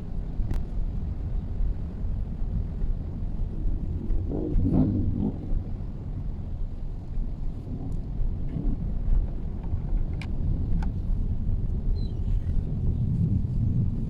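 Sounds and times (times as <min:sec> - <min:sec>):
car driving rumble: 0:00.0 - 0:14.0.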